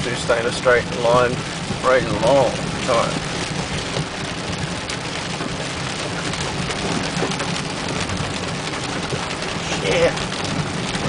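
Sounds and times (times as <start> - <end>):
engine and tyres rumbling: 0.0 - 11.0
rain on a car: 0.0 - 11.0.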